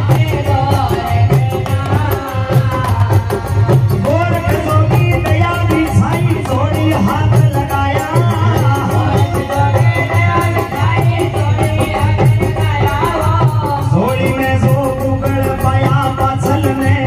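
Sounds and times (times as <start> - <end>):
jingling percussion: 0.0 - 17.0
man singing: 0.0 - 17.0
steady drum beat: 0.0 - 17.0.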